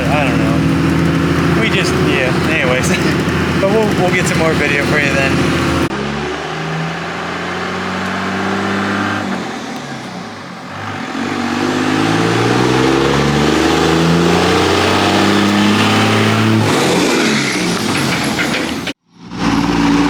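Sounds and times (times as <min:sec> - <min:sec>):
vehicle engine running: 0:00.0 - 0:17.0
road noise: 0:00.0 - 0:20.0.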